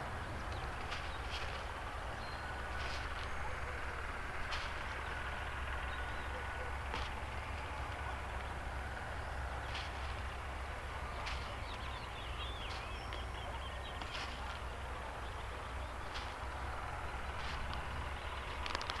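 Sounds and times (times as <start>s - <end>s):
steady low rumble: 0.0s - 19.0s
faint bird chirps: 0.4s - 18.6s.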